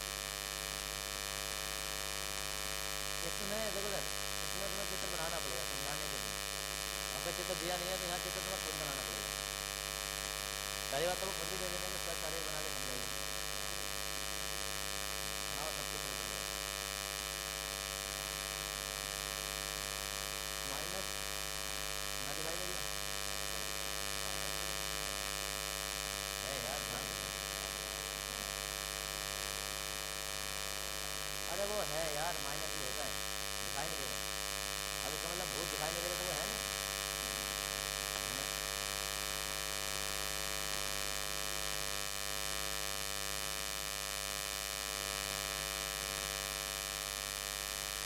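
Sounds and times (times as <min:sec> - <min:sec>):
electrical hum and buzz: 0:00.0 - 0:48.0.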